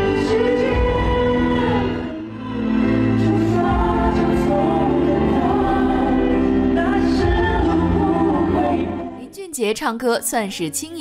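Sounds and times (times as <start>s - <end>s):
two men singing a ballad: 0.0s - 9.1s.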